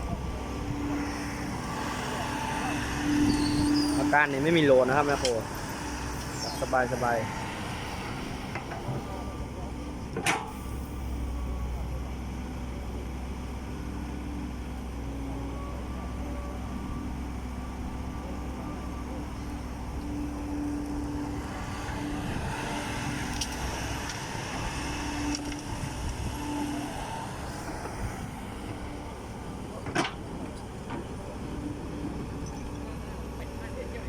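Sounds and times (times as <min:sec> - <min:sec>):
heavy diesel engine humming: 0:00.0 - 0:34.0.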